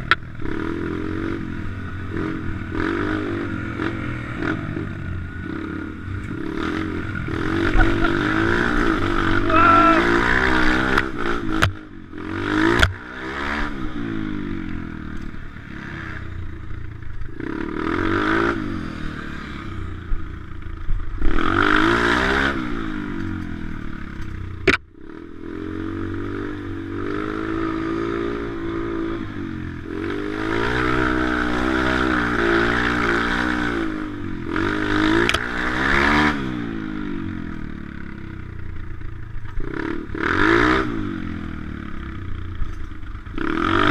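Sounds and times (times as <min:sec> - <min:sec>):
small motorbike engine revving: 0:00.0 - 0:43.9.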